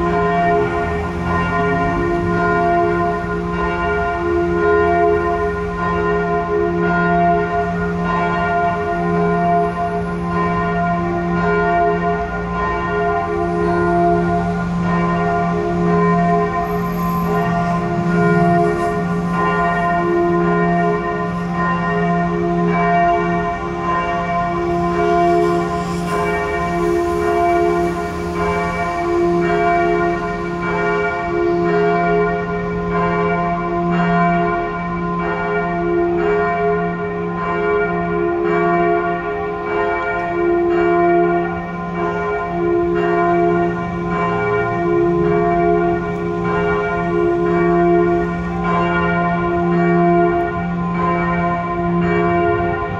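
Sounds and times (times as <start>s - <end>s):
church bell ringing: 0.0s - 52.9s.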